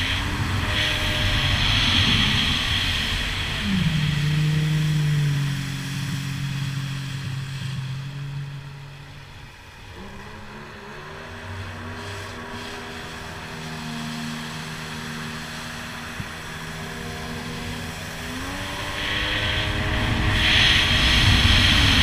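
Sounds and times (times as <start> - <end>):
jet ski engine running: 0.0 - 22.0.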